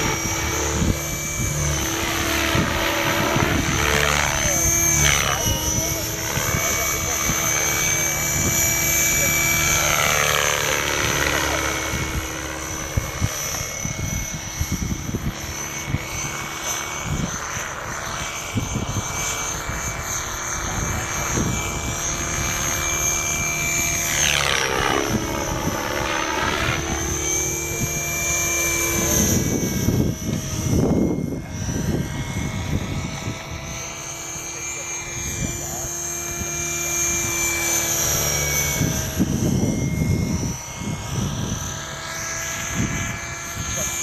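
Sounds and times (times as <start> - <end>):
wind buffeting microphone: 0.0 - 34.0, 38.0 - 44.0
rc helicopter whine: 0.0 - 44.0.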